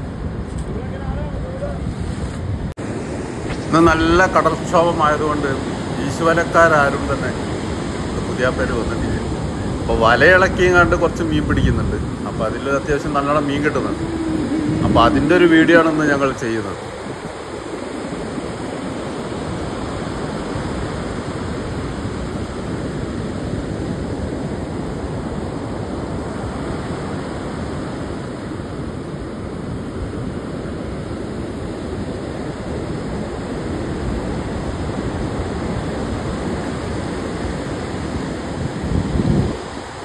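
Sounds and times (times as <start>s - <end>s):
surf breaking on beach: 0.0s - 40.0s.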